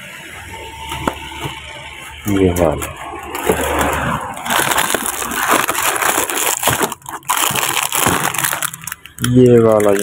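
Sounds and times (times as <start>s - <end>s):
plastic wrappers and boxes rustling: 0.5s - 10.0s.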